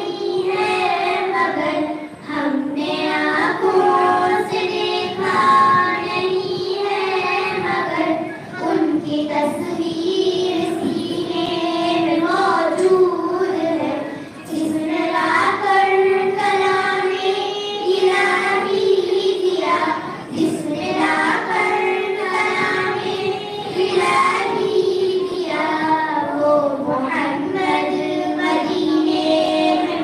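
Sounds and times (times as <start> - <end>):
girls singing together: 0.0 - 30.0.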